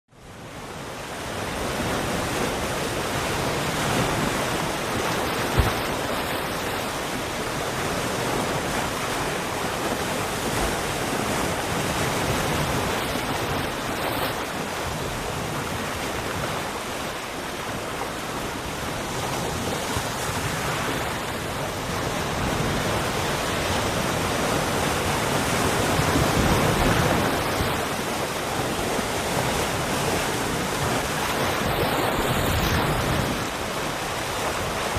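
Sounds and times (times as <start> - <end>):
sea waves breaking: 0.2 - 34.9.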